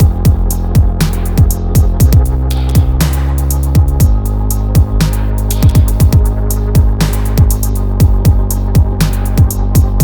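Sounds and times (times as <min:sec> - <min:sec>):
kick drum: 0:00.0 - 0:03.1, 0:03.7 - 0:10.0
bass line: 0:00.0 - 0:10.0
electronic music: 0:00.0 - 0:10.0
hi-hat ticks: 0:00.0 - 0:10.0.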